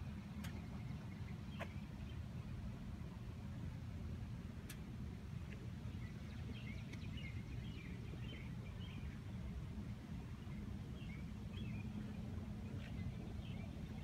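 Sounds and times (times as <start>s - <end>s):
birds chirping: 0.2s - 3.6s, 4.7s - 14.0s.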